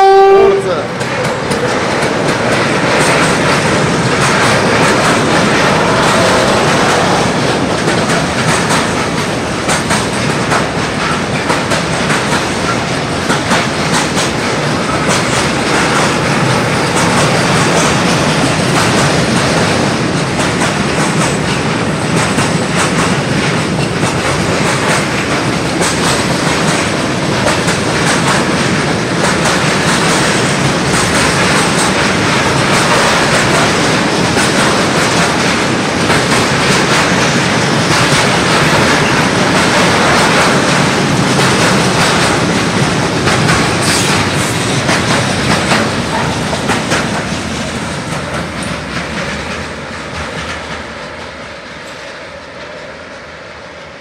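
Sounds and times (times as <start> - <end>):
rail-joint clicks: 0.0 - 52.9
train wheel clatter: 0.0 - 53.3.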